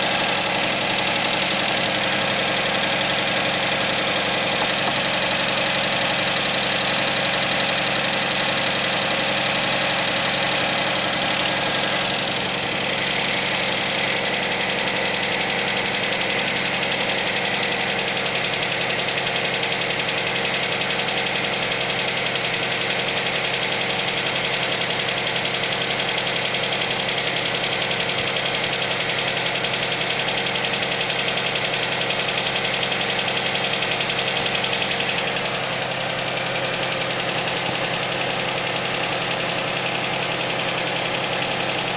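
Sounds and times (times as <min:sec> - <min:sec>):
car engine knocking: 0:00.0 - 0:41.9.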